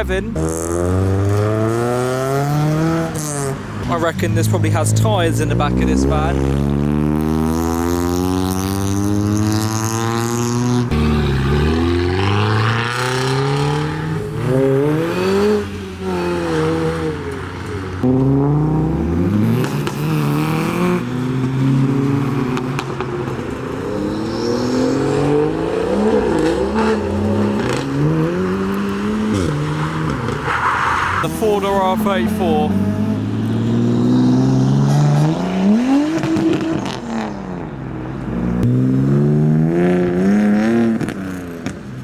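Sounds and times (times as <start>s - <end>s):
car engines revving and accelerating: 0.0s - 42.0s.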